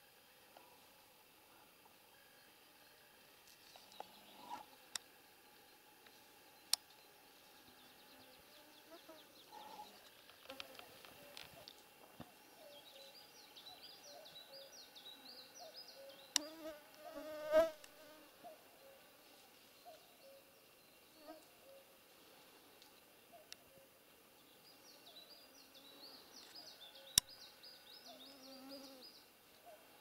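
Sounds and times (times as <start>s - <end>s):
faint bird chirps: 2.1s - 4.8s, 5.4s - 17.6s, 18.4s - 30.0s.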